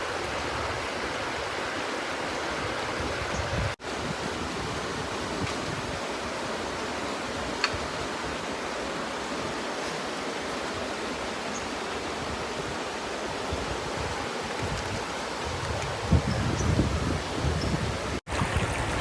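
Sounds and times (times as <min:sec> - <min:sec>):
rushing water hiss: 0:00.0 - 0:19.0.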